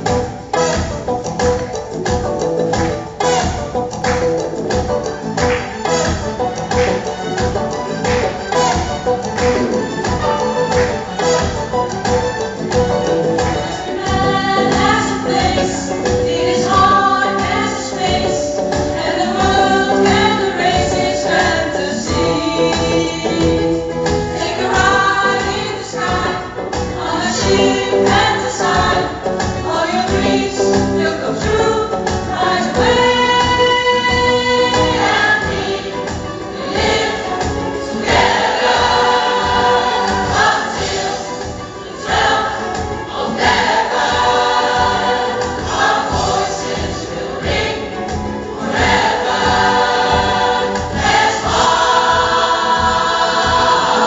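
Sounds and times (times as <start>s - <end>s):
accompaniment with steady beat: 0.0s - 54.0s
pop choir singing: 4.7s - 54.0s.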